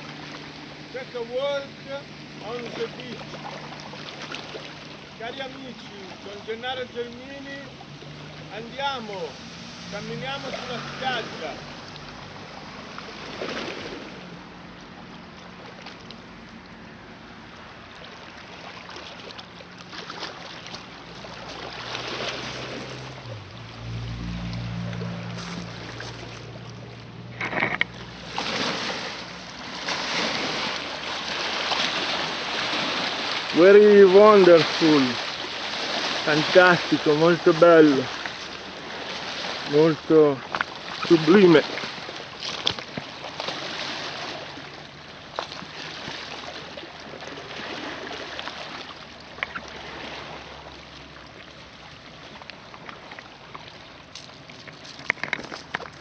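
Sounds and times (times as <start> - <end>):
waves lapping on rocky shore: 0.0 - 56.0.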